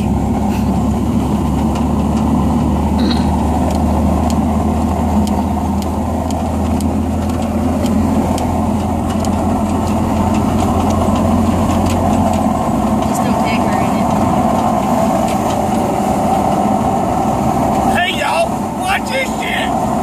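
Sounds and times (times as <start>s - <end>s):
pickup truck engine running: 0.0s - 20.0s
road rumble: 0.0s - 20.0s.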